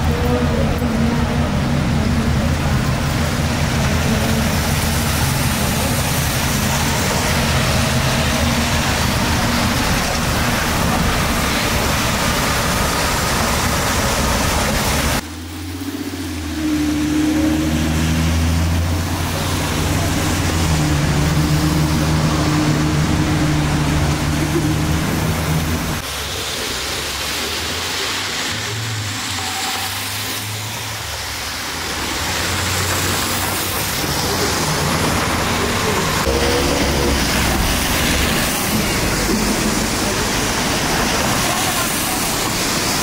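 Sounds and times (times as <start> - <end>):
tyres hissing on wet road: 0.0 - 43.0
vehicle engines running: 0.0 - 43.0.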